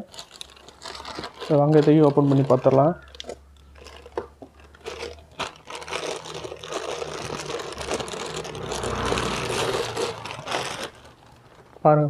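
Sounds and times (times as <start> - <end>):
packaging scraping and rustling: 0.0 - 12.0.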